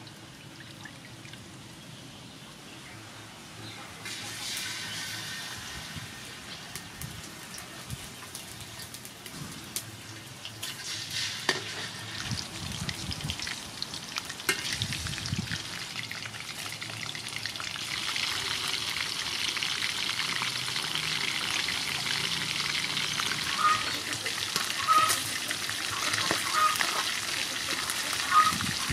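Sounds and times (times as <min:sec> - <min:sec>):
fish sizzling in oil: 0:04.0 - 0:28.9.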